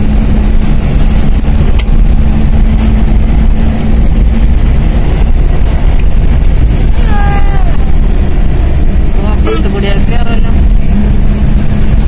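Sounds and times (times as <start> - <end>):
wind and road noise rumble: 0.0 - 12.0.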